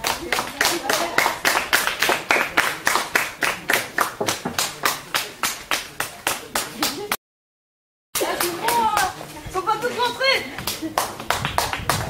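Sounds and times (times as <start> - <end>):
hands clapping rhythmically: 0.0 - 7.2, 8.2 - 9.2, 10.6 - 12.0.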